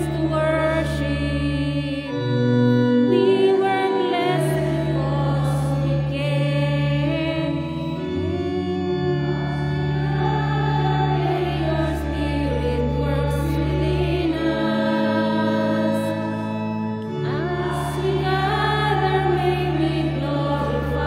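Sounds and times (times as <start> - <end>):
church organ chords: 0.0 - 21.0
person singing a hymn: 0.0 - 21.0.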